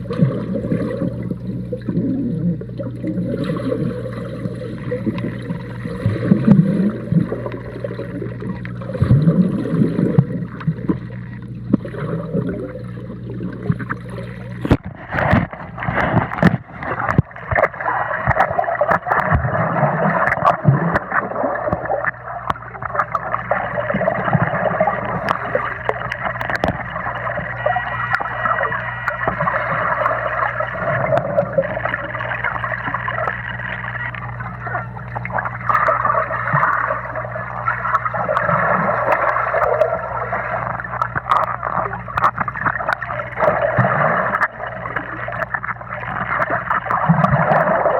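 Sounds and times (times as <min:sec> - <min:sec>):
bubbling and splashing hiss: 0:00.0 - 0:47.9
water gurgling: 0:00.0 - 0:47.9.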